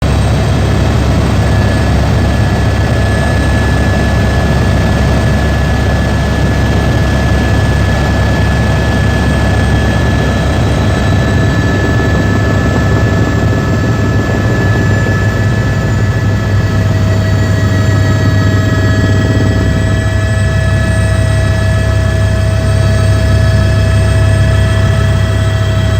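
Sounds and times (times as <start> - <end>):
helicopter engine and rotor drone: 0.0 - 25.9
high-pitched turbine whine: 0.0 - 25.9.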